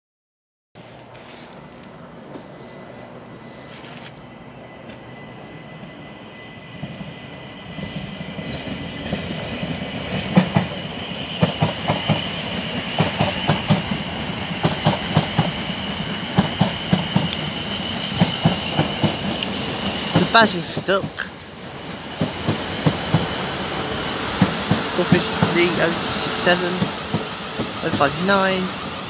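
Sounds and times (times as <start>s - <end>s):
electric train high whine: 0.8s - 29.0s.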